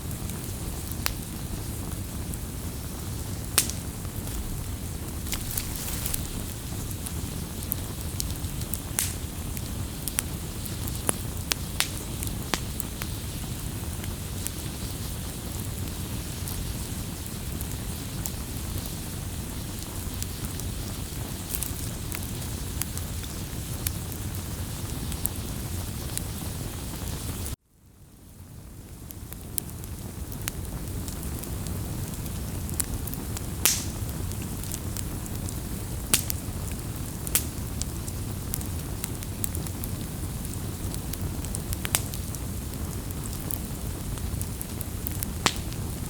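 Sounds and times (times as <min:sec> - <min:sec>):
campfire crackling and popping: 0:00.0 - 0:27.6, 0:28.7 - 0:46.0.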